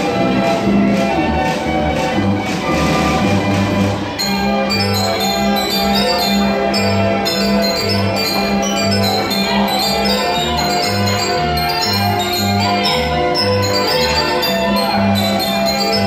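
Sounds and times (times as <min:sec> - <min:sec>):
band organ playing a polka: 0:00.0 - 0:16.0.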